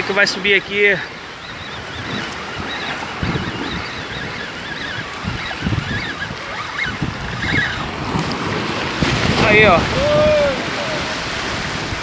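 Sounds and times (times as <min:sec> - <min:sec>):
waves washing against rocks: 0:00.0 - 0:12.0
wind gusting on microphone: 0:00.0 - 0:12.0.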